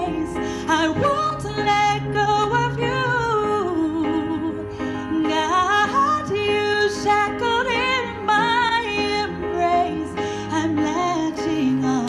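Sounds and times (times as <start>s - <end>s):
woman singing a ballad: 0.0s - 12.0s.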